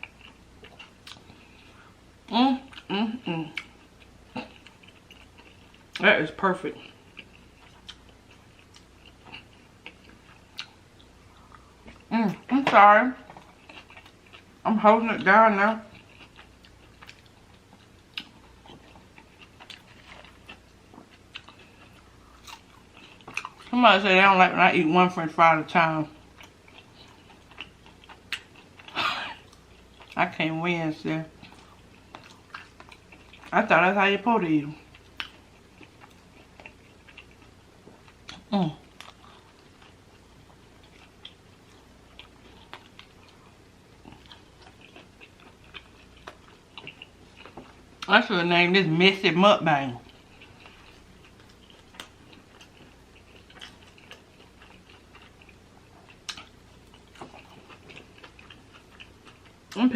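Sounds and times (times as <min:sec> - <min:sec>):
chewing with mouth clicks: 0:00.0 - 0:01.9, 0:02.6 - 0:06.1, 0:06.7 - 0:12.5, 0:13.2 - 0:14.6, 0:15.8 - 0:23.8, 0:26.2 - 0:30.2, 0:31.3 - 0:33.6, 0:34.8 - 0:48.1, 0:50.0 - 0:59.9.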